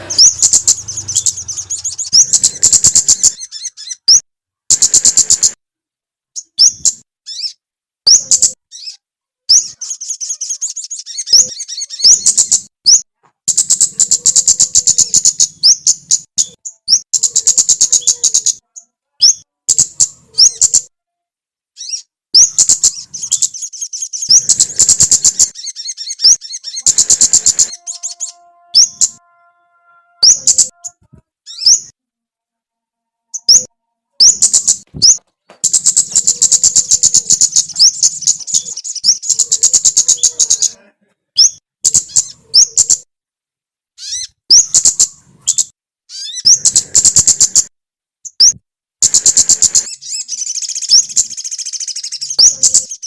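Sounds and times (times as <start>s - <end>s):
songbird trilling and chirping: 0.0s - 5.6s, 6.4s - 20.9s, 21.8s - 31.9s, 33.3s - 40.8s, 41.4s - 43.1s, 44.0s - 53.0s.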